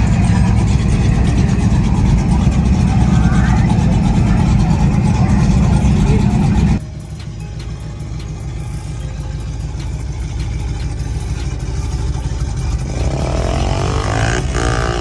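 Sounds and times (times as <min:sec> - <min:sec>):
truck engine and exhaust rumbling: 0:00.0 - 0:15.0.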